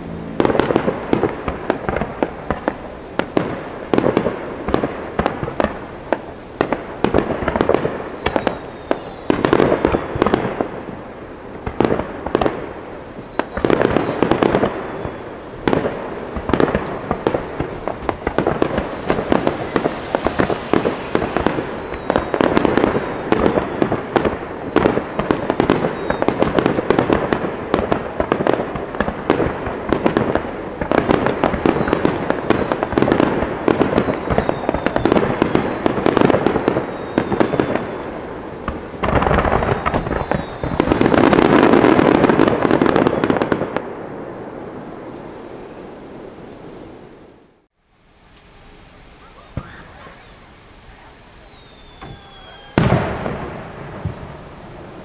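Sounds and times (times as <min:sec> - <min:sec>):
fireworks bangs: 0:00.0 - 0:47.7, 0:49.0 - 0:55.0
fireworks crackle: 0:00.0 - 0:55.0.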